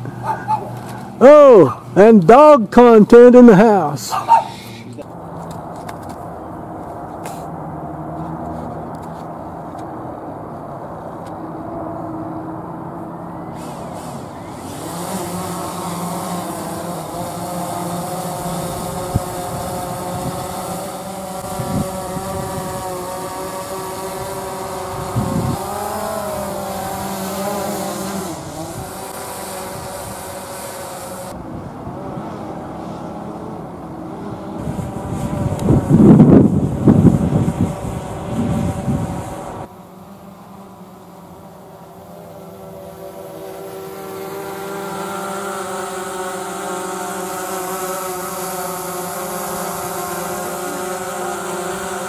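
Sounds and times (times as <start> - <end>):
drone propellers whining: 0.0 - 52.0.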